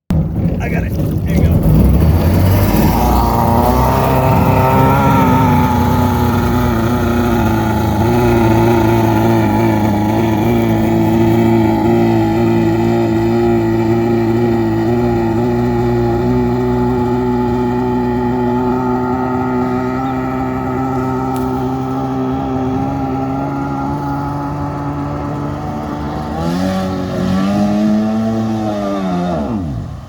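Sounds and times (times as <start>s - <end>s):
jet boat engine running: 0.1s - 30.0s.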